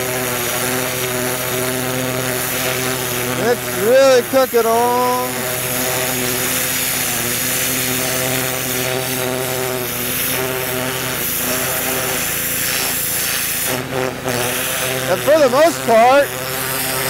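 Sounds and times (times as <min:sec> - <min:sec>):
pressure washer engine droning: 0:00.0 - 0:17.0
water jet hissing: 0:00.0 - 0:17.0.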